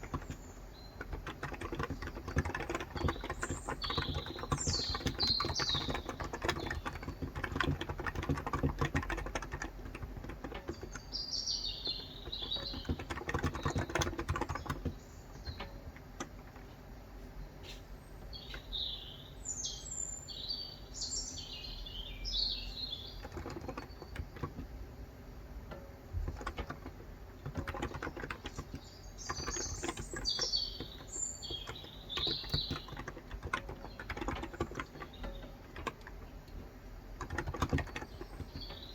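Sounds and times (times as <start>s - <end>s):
keyboard typing: 0.0s - 16.7s, 23.1s - 24.8s, 26.1s - 38.9s
birds chirping: 0.0s - 24.8s, 26.2s - 38.9s.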